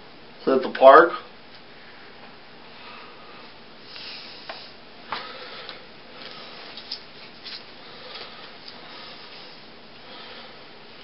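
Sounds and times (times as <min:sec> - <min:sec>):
steady hiss: 0:00.4 - 0:11.0.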